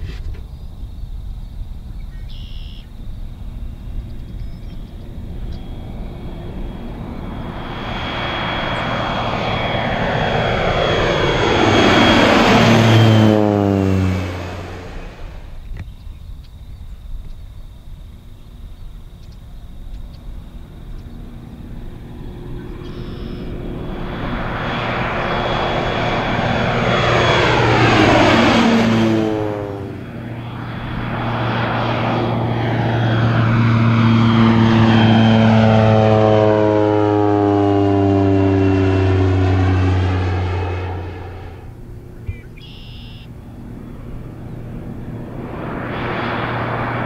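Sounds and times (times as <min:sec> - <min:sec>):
turboprop plane passing low: 0:00.0 - 0:47.0.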